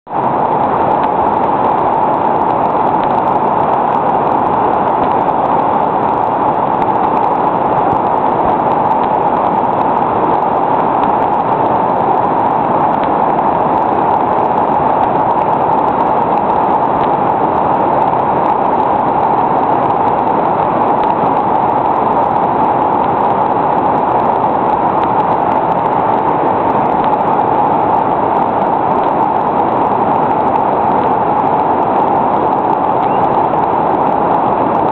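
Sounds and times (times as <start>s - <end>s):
churning whitewater rushing: 0.1s - 34.9s.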